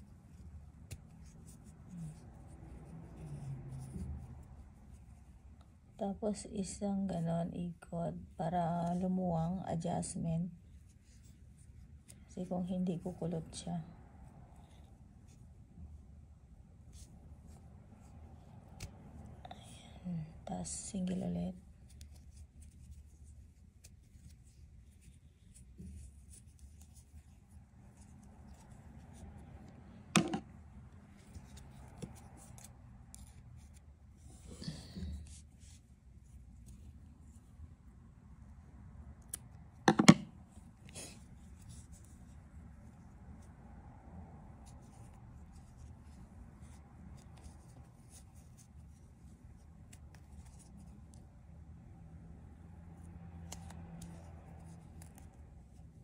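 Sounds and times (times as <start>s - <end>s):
crochet hook scratching yarn: 0.0s - 15.8s, 20.2s - 43.8s, 44.4s - 56.0s
low steady room hum: 0.0s - 56.0s.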